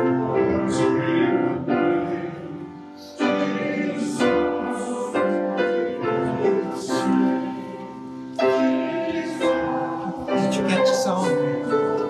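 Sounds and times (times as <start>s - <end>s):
congregation singing: 0.0s - 12.0s
piano chords: 0.0s - 12.0s.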